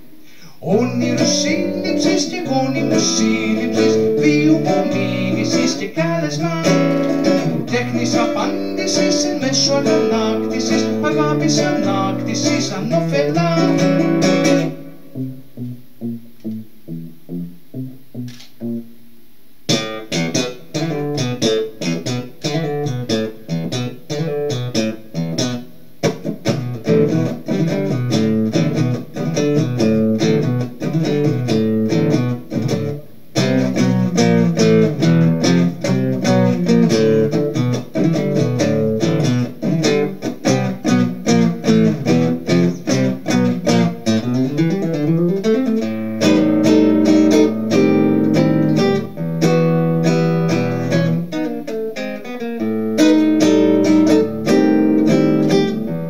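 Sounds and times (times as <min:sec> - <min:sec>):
acoustic guitar picking: 0:00.0 - 0:19.0, 0:19.7 - 0:56.0.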